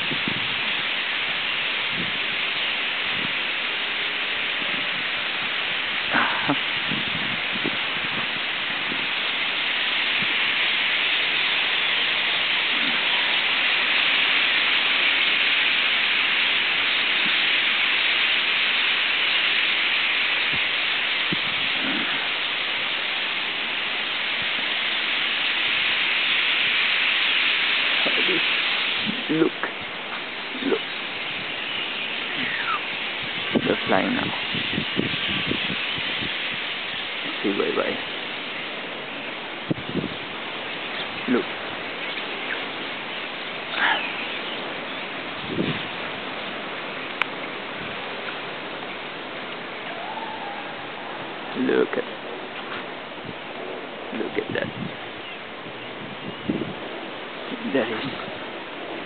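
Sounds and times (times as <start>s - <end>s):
starlings chattering: 0.0s - 59.0s.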